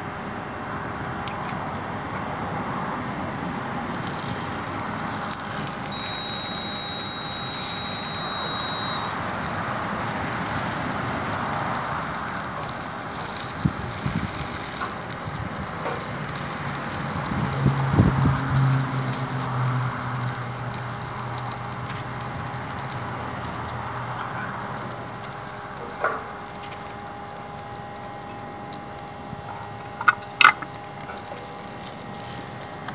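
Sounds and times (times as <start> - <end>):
burner flame hissing and crackling: 0.0 - 32.9
omelet sizzling in skillet: 3.8 - 32.9.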